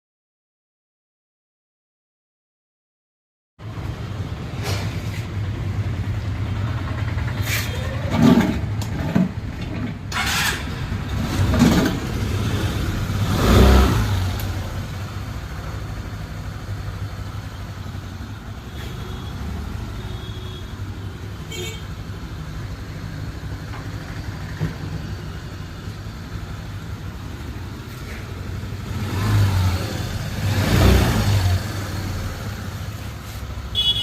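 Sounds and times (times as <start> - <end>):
scooter engine idling and revving: 3.6 - 34.0.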